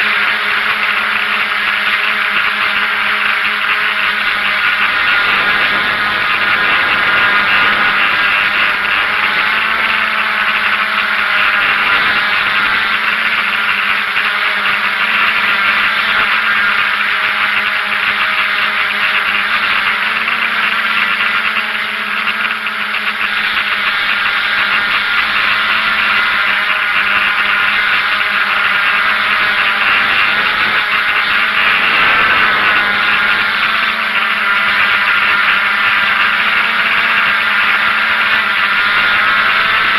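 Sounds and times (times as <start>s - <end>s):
drone motors buzzing: 0.0s - 39.9s.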